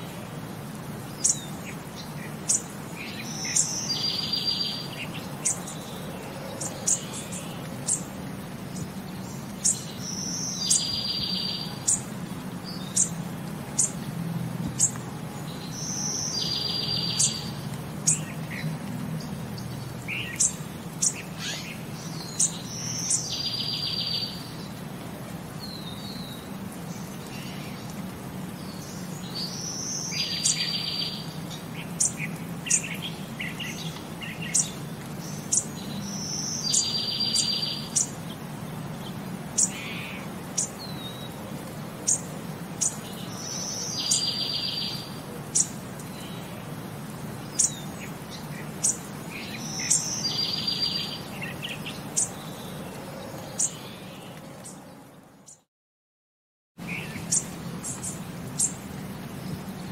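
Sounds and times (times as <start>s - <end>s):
birds chirping and calling: 1.1s - 14.0s, 14.8s - 24.8s, 25.6s - 46.6s, 47.4s - 54.9s, 56.9s - 59.9s.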